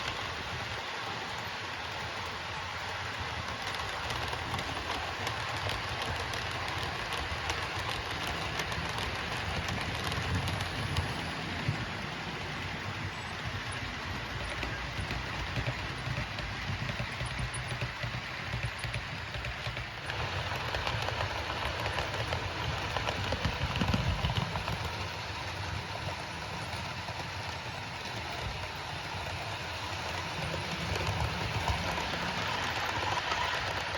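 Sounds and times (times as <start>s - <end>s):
model train motor running: 0.0s - 33.9s
model train wheels rattling on track: 0.0s - 33.9s.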